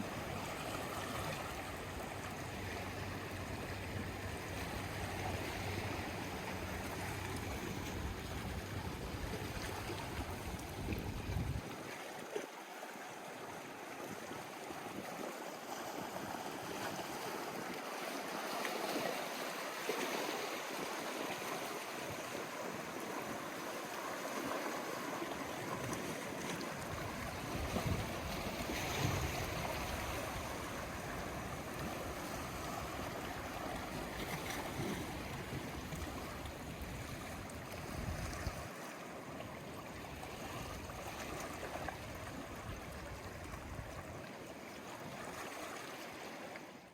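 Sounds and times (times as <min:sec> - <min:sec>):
sea waves washing on shore: 0:00.0 - 0:46.9.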